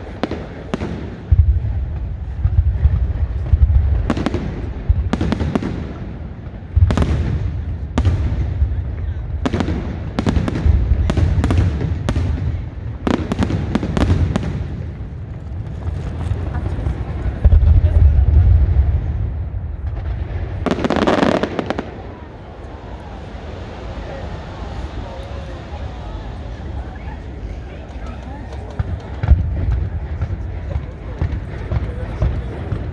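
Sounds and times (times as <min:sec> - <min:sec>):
deep continuous rumble: 0:00.0 - 0:32.9
fireworks bangs: 0:00.0 - 0:32.9.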